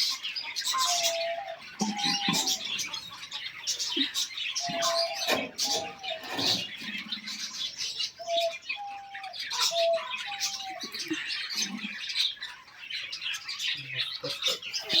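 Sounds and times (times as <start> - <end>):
lower-pitched bird calls: 0.0 - 12.6
small birds chirping: 0.0 - 15.0.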